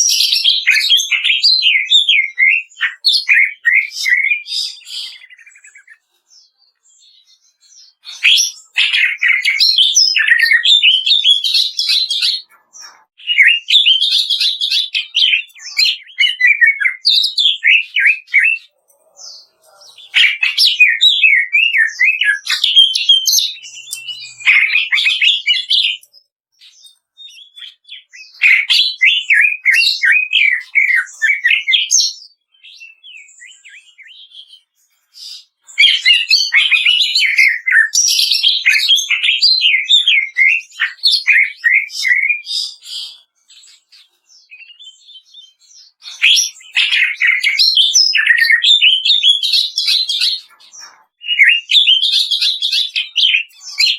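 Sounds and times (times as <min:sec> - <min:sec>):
bird singing fast chattering song: 0:00.0 - 0:53.9.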